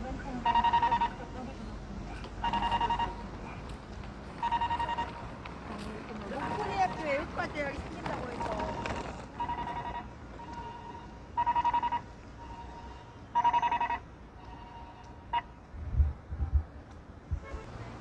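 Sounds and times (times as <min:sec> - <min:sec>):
pedestrian signal beeping: 0:00.0 - 0:03.6, 0:04.3 - 0:15.7.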